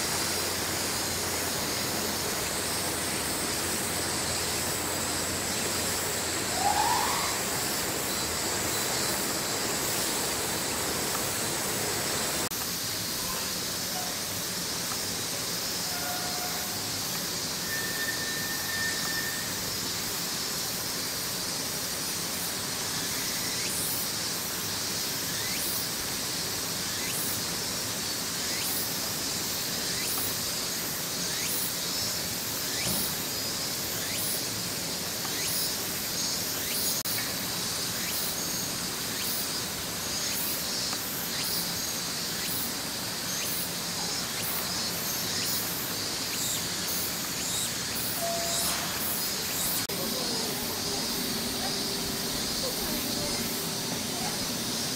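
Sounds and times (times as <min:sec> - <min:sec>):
cicadas hissing: 0:00.0 - 0:54.9.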